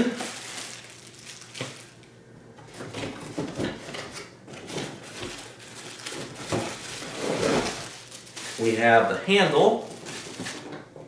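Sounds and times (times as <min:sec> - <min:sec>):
cardboard packaging rustling: 0:00.0 - 0:02.0, 0:02.7 - 0:10.8.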